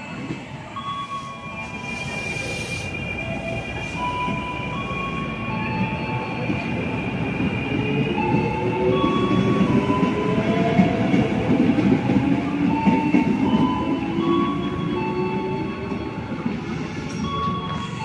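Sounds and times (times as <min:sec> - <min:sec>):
electric train rumbling and whining: 0:00.0 - 0:18.0.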